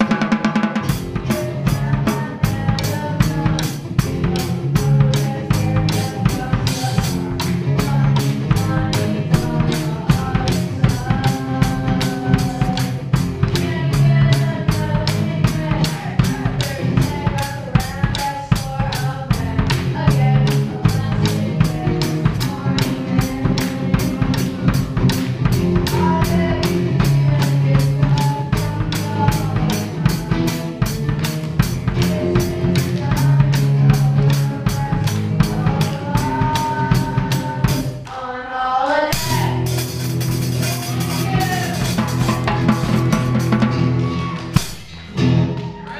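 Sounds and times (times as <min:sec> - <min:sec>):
acoustic guitar: 0:00.0 - 0:38.1, 0:39.1 - 0:45.9
steady drum beat: 0:00.0 - 0:38.1, 0:39.1 - 0:45.9.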